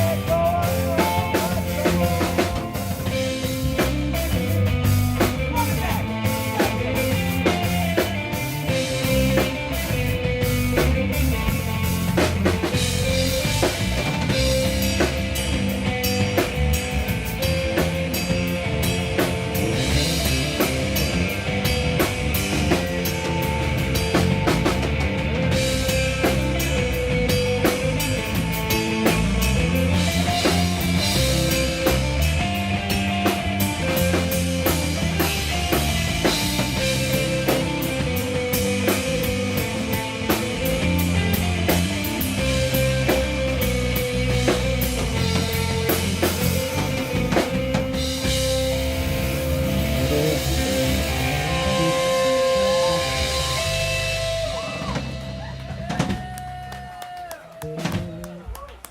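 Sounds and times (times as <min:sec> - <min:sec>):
live rock band playing: 0:00.0 - 0:57.0, 0:57.6 - 0:58.6
drum kit: 0:00.0 - 0:58.9
electric guitar: 0:00.0 - 0:58.9.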